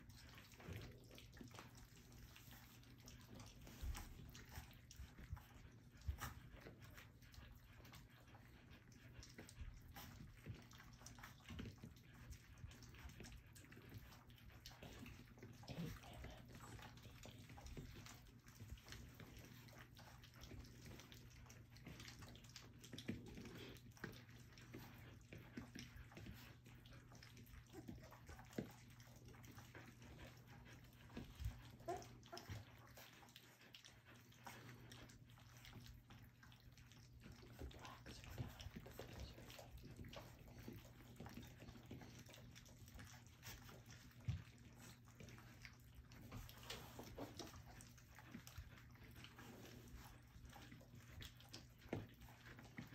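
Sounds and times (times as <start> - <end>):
puppies lapping and slurping food: 0.0 - 52.9.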